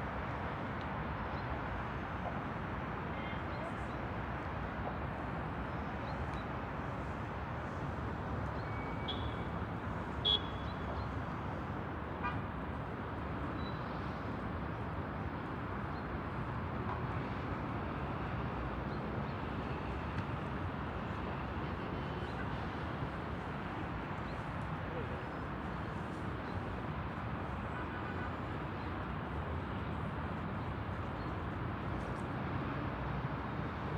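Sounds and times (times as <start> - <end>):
distant city traffic hum: 0.0 - 33.9.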